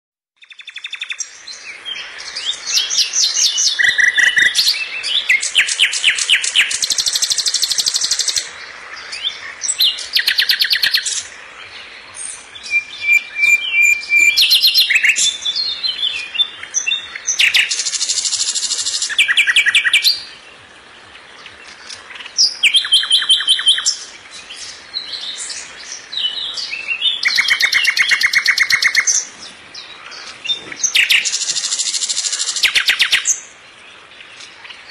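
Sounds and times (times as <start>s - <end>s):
songbird trilling and chirping: 0.4s - 34.9s.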